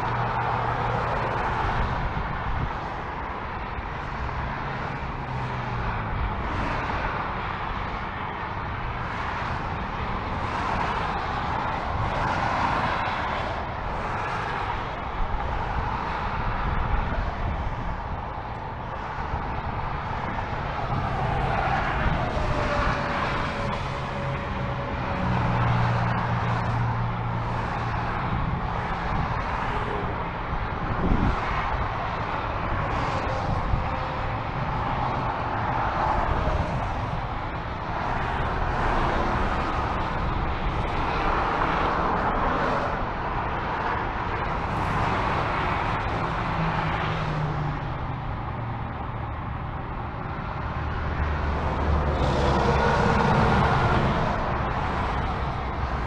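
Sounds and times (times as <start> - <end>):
freeway traffic passing: 0.0 - 56.0
heavy vehicle engine hum: 0.0 - 56.0.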